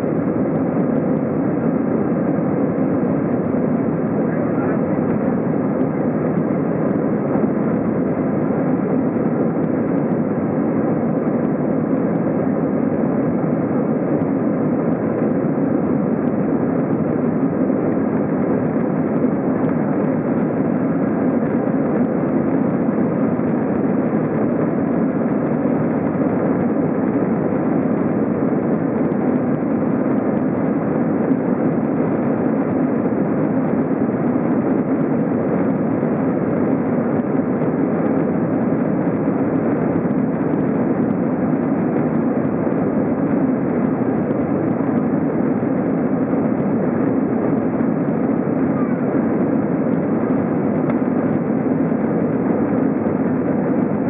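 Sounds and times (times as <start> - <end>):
jet engines at climb power: 0.0 - 54.0
rushing air in cabin: 0.0 - 54.0.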